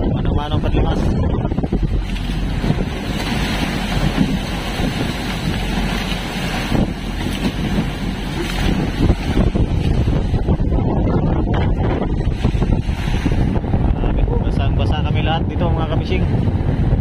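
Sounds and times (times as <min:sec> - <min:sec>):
waves rushing along hull: 0:00.0 - 0:17.0
wind buffeting microphone: 0:00.0 - 0:17.0.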